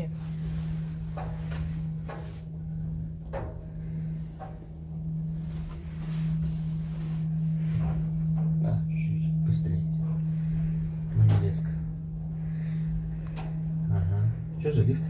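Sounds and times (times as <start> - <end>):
lift low hum: 0.0 - 15.0.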